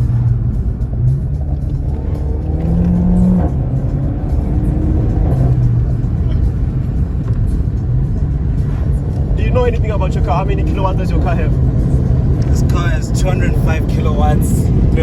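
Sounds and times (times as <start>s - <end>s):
car engine and road rumble: 0.0s - 15.0s
music playing: 0.0s - 15.0s.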